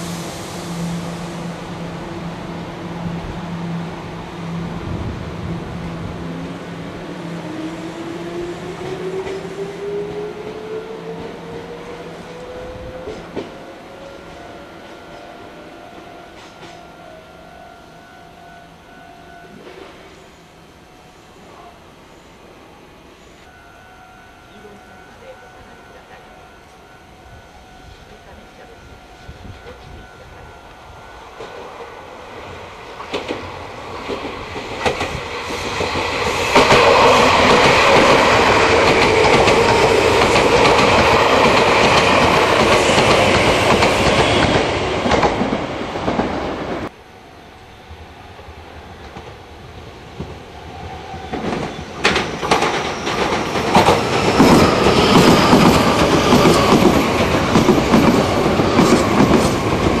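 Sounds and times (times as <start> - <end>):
electric train passing: 0.0 - 60.0.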